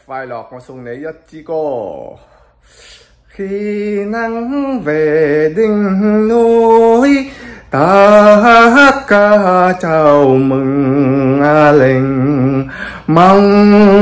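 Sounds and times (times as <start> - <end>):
man singing a birthday song: 0.0 - 2.3, 3.2 - 14.0.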